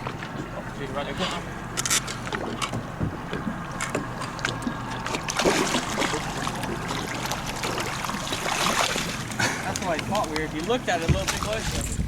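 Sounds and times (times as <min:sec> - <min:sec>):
motorboat engine hum: 0:00.0 - 0:12.0
water rushing along hull: 0:00.0 - 0:12.0.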